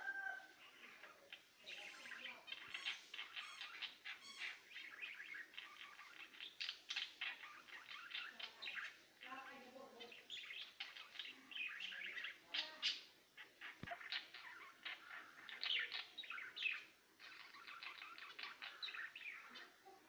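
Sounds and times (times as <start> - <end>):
finches chirping: 0.0 - 20.0.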